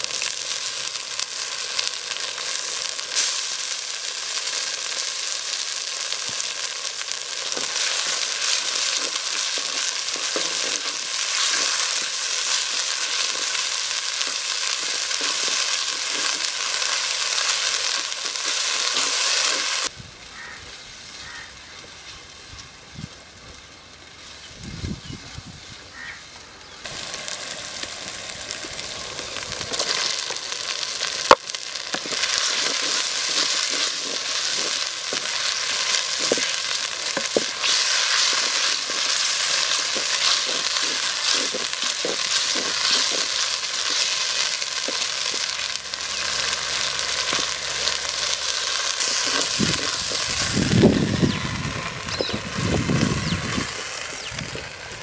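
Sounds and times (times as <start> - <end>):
shallots sizzling in oil: 0.0 - 55.0.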